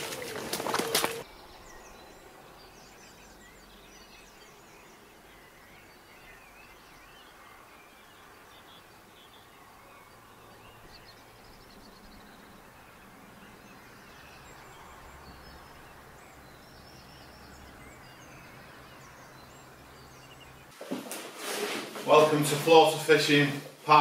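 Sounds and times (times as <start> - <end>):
distant birds chirping: 0.0 - 24.0.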